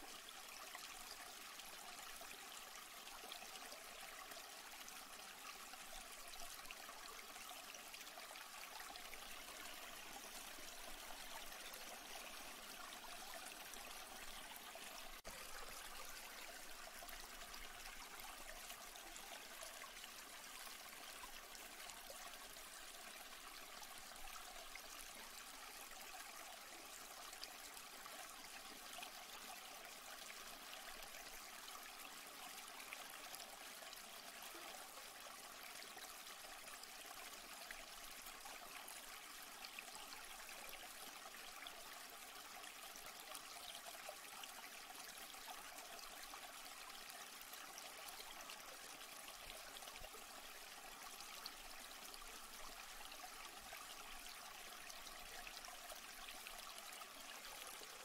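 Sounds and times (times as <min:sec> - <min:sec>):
small stream flowing: 0:00.0 - 0:58.0.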